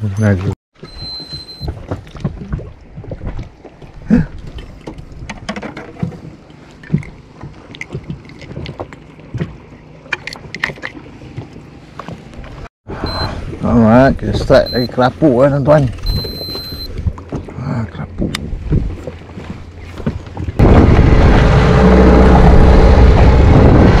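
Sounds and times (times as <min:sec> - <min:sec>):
low rumble of water and wind: 0:00.0 - 0:24.0
knocks and clicks on boat: 0:00.8 - 0:13.6, 0:14.2 - 0:20.6.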